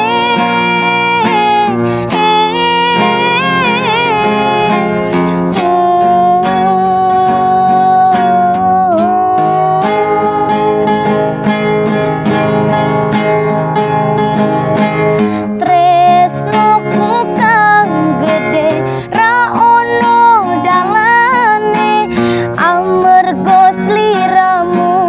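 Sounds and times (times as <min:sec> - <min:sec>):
woman singing: 0:00.0 - 0:11.5, 0:15.2 - 0:25.0
strummed acoustic guitar: 0:00.0 - 0:25.0.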